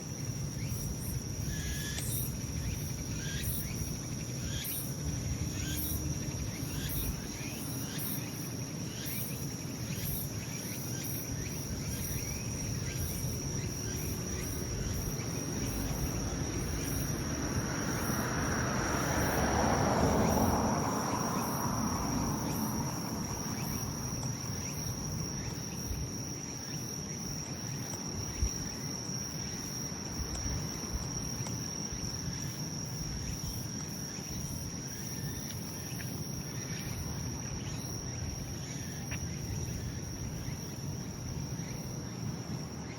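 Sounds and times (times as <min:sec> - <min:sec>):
insects trilling and chirping: 0:00.0 - 0:42.9.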